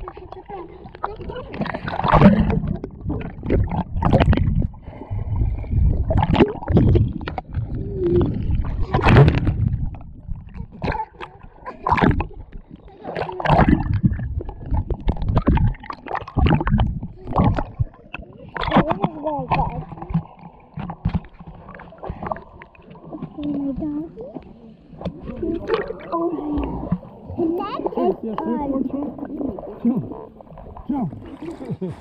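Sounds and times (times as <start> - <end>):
water sloshing and splashing: 0.0 - 32.0.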